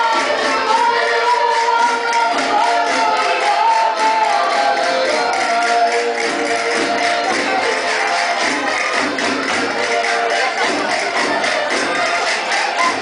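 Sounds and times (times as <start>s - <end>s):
accordions: 0.0s - 13.0s
group singing: 0.0s - 13.0s
steady beat: 0.0s - 13.0s.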